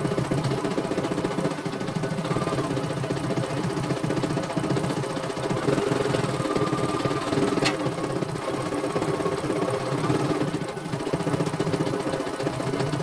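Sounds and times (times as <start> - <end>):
embroidery machine stitching: 0.0 - 13.0.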